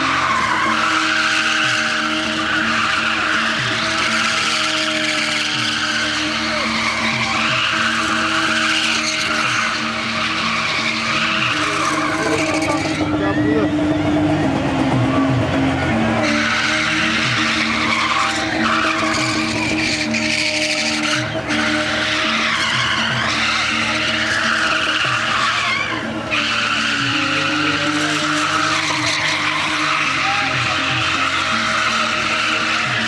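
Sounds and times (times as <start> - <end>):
car engine revving high: 0.0 - 33.0
tyres screeching: 0.0 - 33.0.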